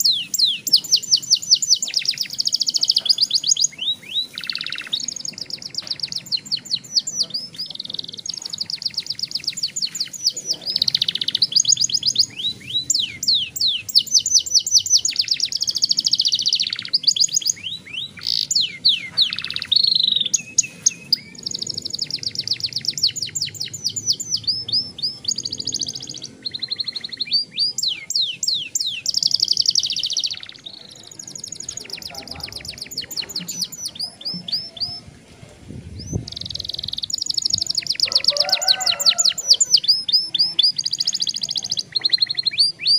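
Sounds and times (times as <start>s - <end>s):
canary singing trills: 0.0s - 35.1s, 35.9s - 42.9s.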